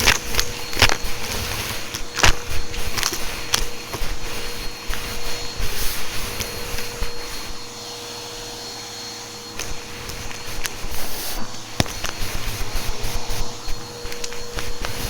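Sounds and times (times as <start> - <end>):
vacuum cleaner whine: 0.0 - 15.0.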